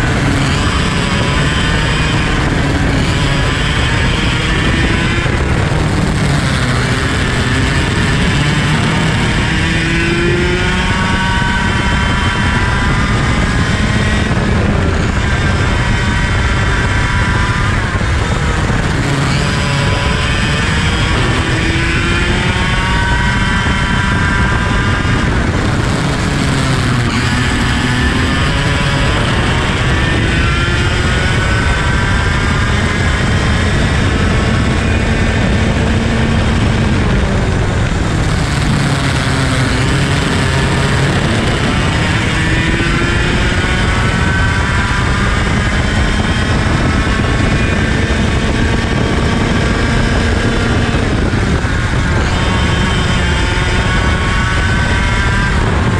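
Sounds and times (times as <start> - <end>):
kart engine under hard throttle: 0.0 - 55.9.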